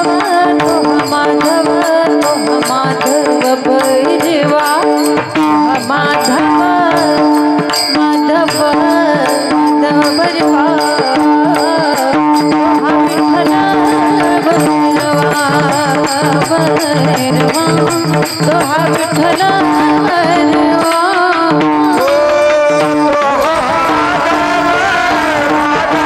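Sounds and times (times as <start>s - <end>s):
fast percussion beat: 0.0s - 26.0s.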